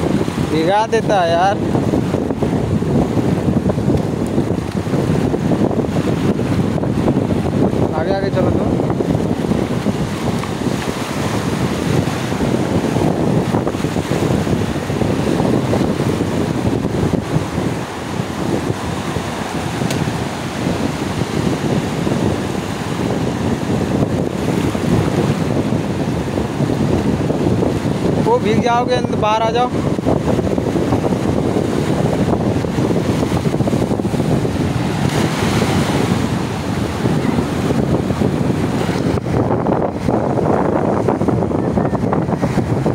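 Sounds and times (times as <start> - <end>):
small waves breaking on beach: 0.0 - 42.9
wind buffeting microphone: 0.0 - 42.9.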